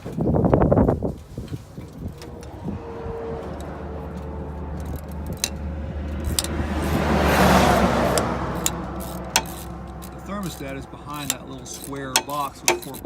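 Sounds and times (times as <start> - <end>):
traffic low rumble: 0.0 - 13.0
vehicle passing: 1.6 - 13.0.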